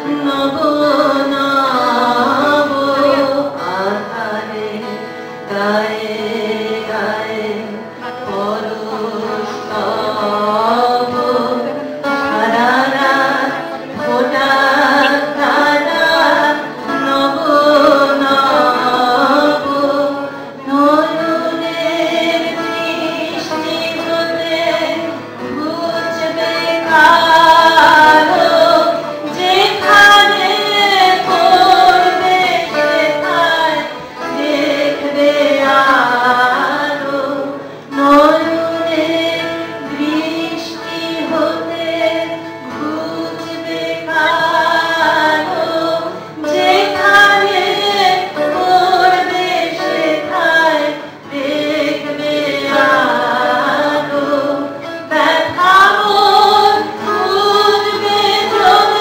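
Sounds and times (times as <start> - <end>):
woman singing: 0.0 - 59.0.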